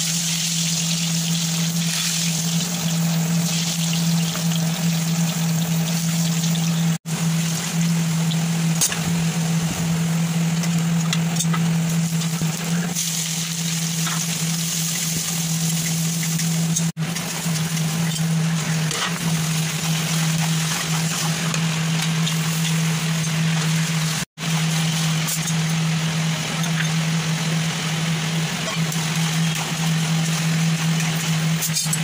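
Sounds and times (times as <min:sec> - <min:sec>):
oil sizzling in a wok: 0:00.0 - 0:32.0.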